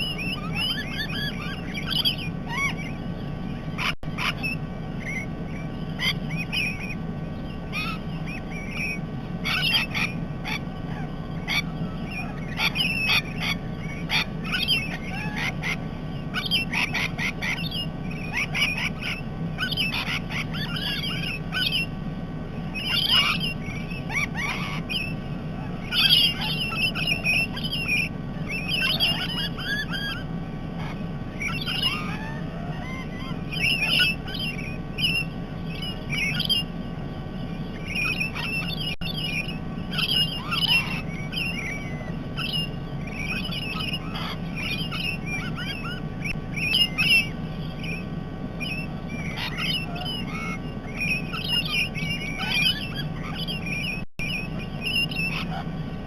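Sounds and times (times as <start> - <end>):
parrots squawking: 0.0 - 56.0
steady low hum: 0.0 - 56.0.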